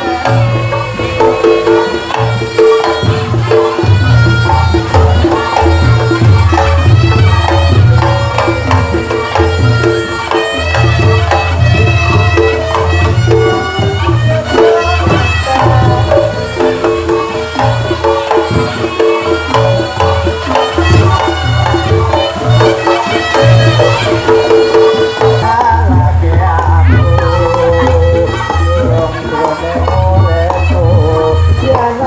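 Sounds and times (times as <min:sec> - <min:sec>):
drums beating: 0:00.0 - 0:32.0
high melodic line: 0:00.0 - 0:32.0.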